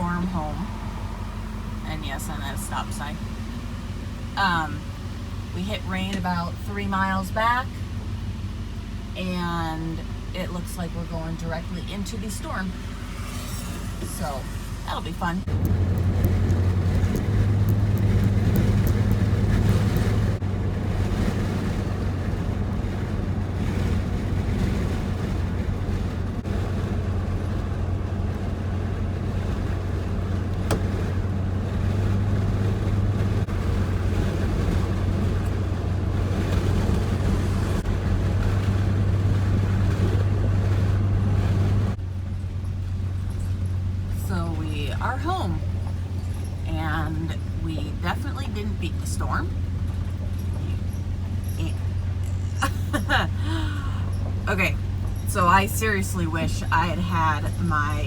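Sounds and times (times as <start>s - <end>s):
road and wind noise: 0.0s - 58.0s
truck engine drone: 0.0s - 58.0s.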